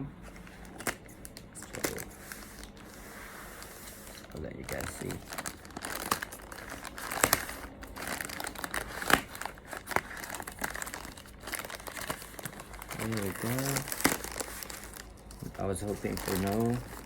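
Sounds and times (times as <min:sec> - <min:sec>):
packaging crinkling and tearing: 0:00.4 - 0:03.0, 0:03.6 - 0:17.0.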